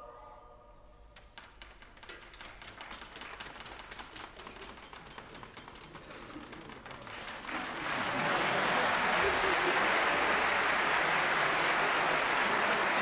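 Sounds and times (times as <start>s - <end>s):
large audience applauding: 1.8s - 13.0s.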